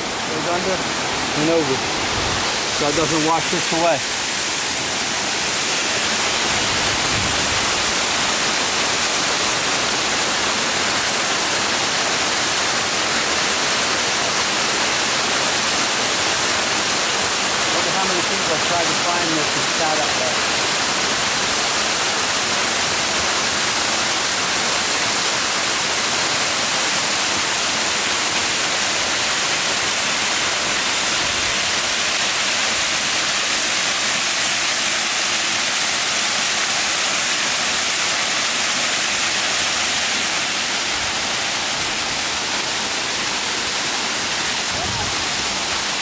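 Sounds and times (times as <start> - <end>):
waterfall splashing on stone: 1.4 - 46.0.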